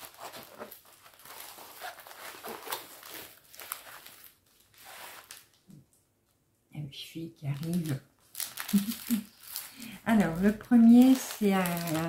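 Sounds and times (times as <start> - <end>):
packaging crinkling: 0.0 - 5.7, 7.5 - 12.0.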